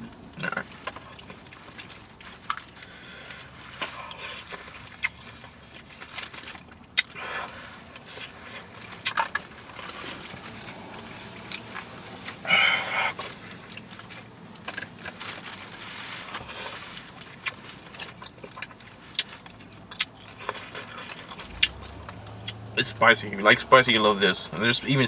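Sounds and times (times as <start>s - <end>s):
person chewing: 0.3s - 22.7s.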